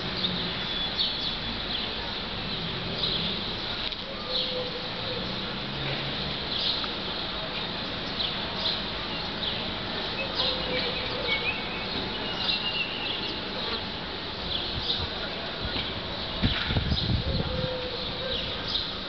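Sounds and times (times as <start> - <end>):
small birds chirping: 0.0 - 5.6, 6.4 - 19.0
outdoor background noise: 0.0 - 19.0.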